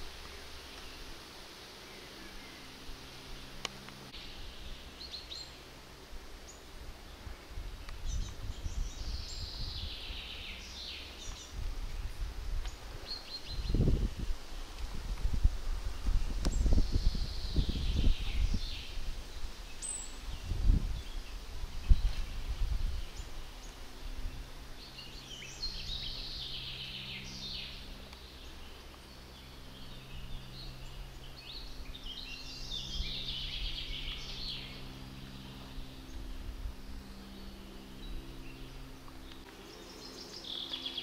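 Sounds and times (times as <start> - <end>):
faint low drone: 0.0 - 41.0
songbirds singing: 0.0 - 41.0.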